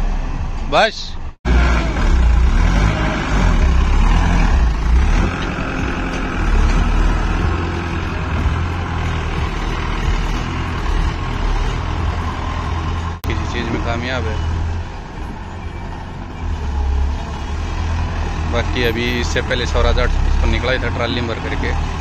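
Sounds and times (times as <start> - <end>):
tractor engine rumbling under load: 0.0 - 22.0.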